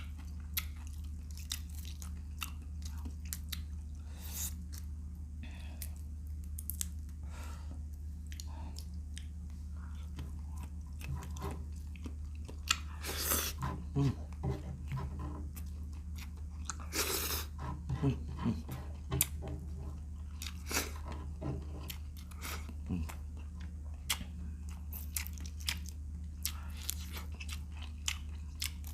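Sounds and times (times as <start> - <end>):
chewing crunchy shrimp: 0.0 - 5.0, 7.8 - 28.9
steady low hum: 0.0 - 28.9.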